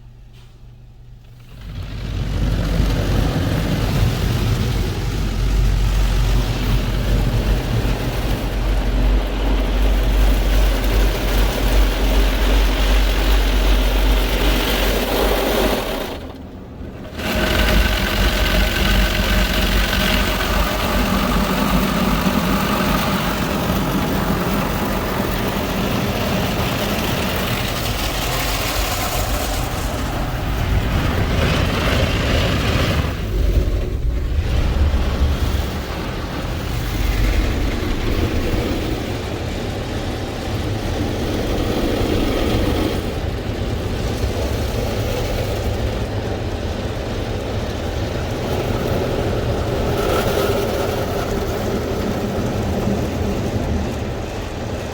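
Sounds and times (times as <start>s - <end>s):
car wash machinery running: 0.0s - 54.9s.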